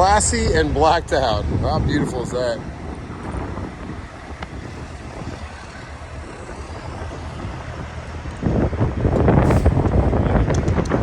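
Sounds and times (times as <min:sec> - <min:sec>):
low outdoor rumble: 0:00.0 - 0:11.0
wind buffeting microphone: 0:00.0 - 0:11.0.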